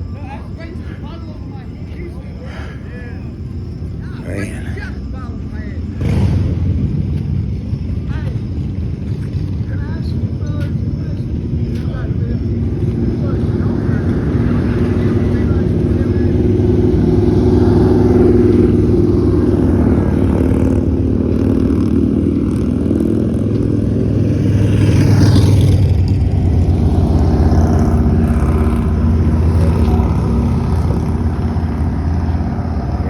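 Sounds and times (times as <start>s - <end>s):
road noise: 0.0s - 33.0s
vehicle engine running: 0.0s - 33.0s.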